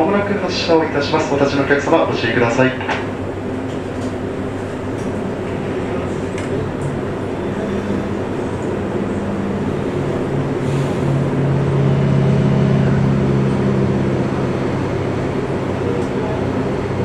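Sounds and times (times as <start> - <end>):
train running hum: 0.0 - 17.0.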